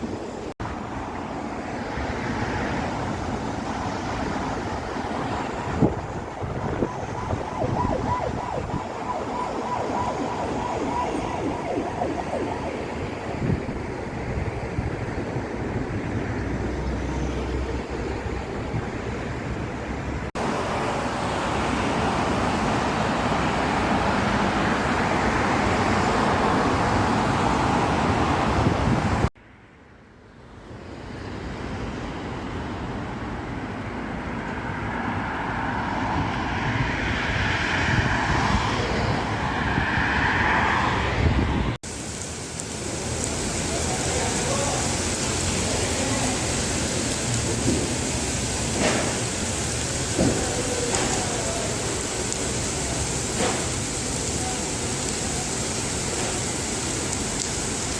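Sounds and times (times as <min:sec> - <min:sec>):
road traffic hiss: 0:00.0 - 0:57.9.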